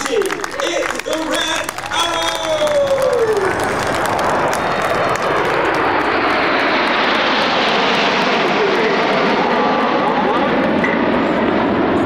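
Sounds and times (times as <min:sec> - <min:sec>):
jet aircraft rushing roar: 0:00.0 - 0:12.0.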